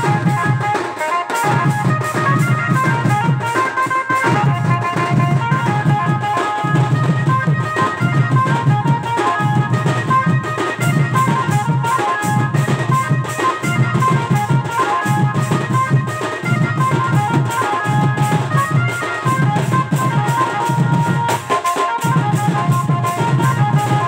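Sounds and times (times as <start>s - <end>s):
barrel drums fast rhythm: 0.0s - 24.0s.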